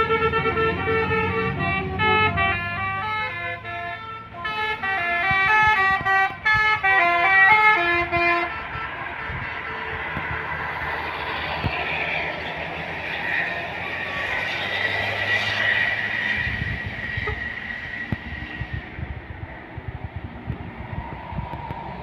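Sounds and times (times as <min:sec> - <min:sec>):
bus driving past: 0:00.0 - 0:22.0.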